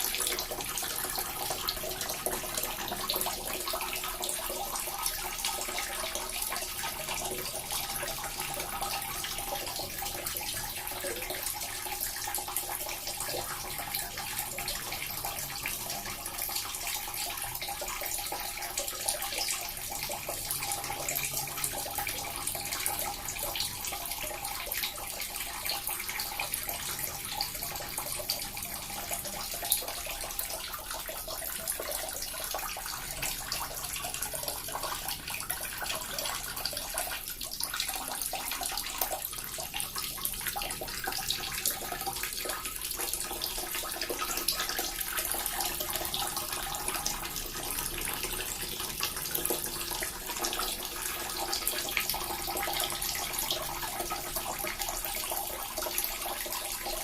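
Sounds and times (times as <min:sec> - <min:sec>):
water fountain splashing: 0:00.0 - 0:57.0.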